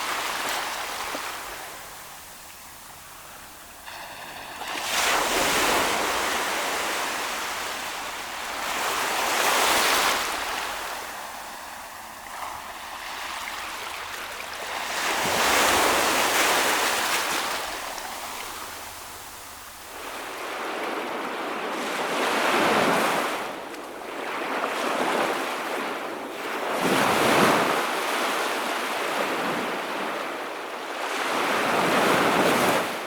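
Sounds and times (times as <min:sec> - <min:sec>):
ocean waves breaking on shore: 0:00.0 - 0:33.0.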